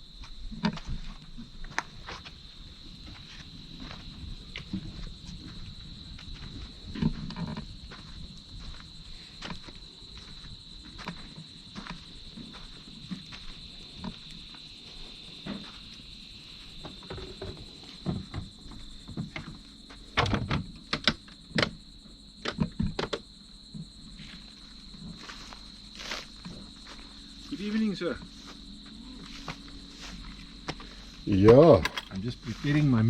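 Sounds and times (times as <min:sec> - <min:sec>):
night insects trilling: 0:00.0 - 0:33.0.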